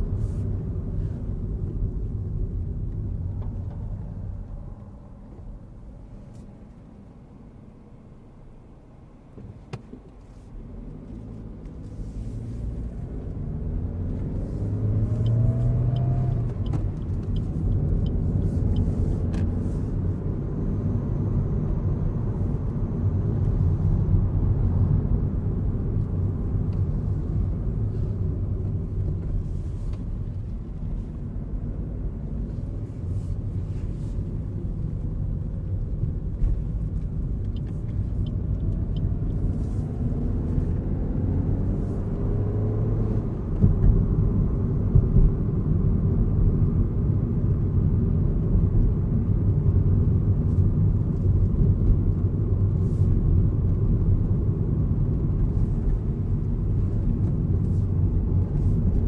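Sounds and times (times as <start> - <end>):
road noise: 0.0 - 59.0
car engine accelerating: 10.6 - 59.0.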